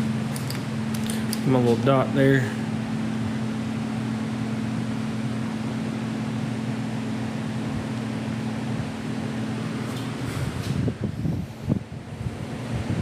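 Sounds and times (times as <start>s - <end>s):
air conditioning blower hum: 0.0s - 13.0s.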